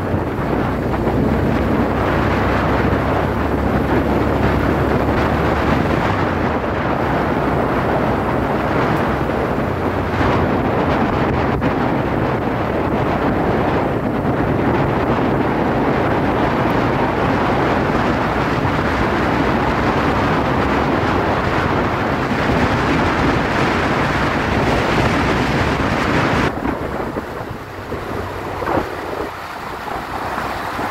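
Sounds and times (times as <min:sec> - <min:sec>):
motorcycle engine running: 0:00.0 - 0:30.9
wind rushing over microphone: 0:00.0 - 0:30.9.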